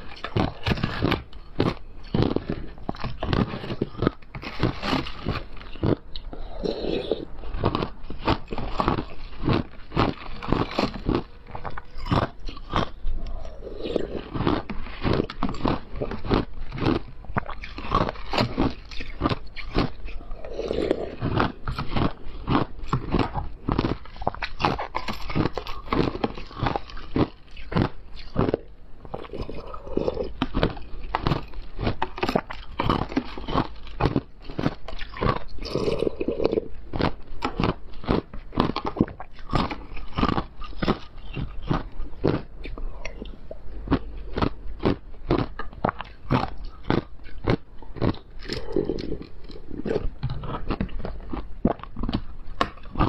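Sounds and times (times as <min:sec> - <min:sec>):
ice being chewed: 0:00.0 - 0:53.0.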